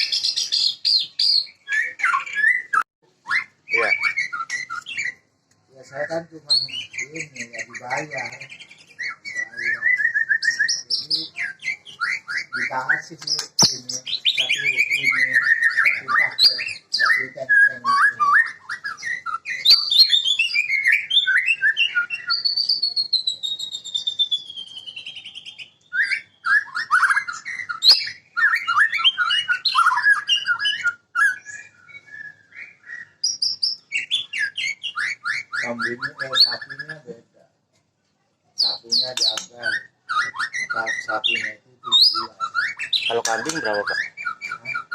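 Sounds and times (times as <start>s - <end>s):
bird singing trills and whistles: 0.0s - 37.3s, 38.6s - 44.9s.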